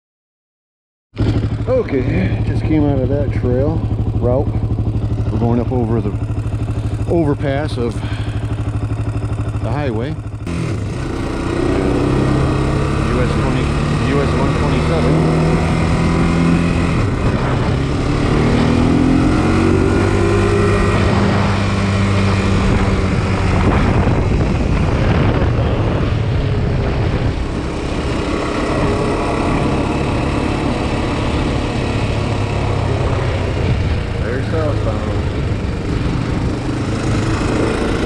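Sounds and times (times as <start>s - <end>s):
quad bike engine running: 1.2s - 38.0s.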